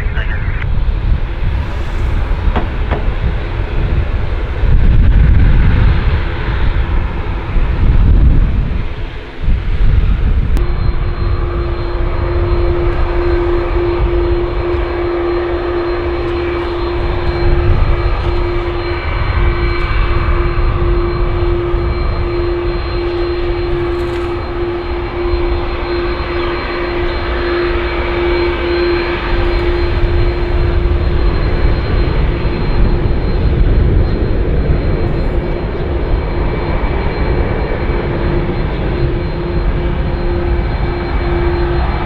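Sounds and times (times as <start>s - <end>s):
airplane engines running: 0.0s - 42.0s.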